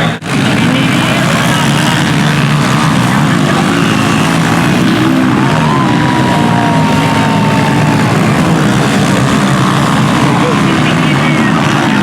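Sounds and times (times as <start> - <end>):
small motorbike engines droning: 0.0 - 12.0.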